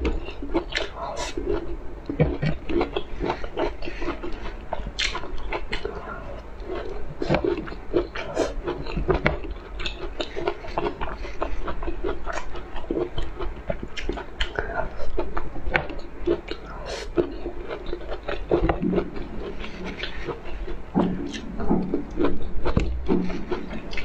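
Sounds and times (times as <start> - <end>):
person chewing and biting: 0.0 - 24.0.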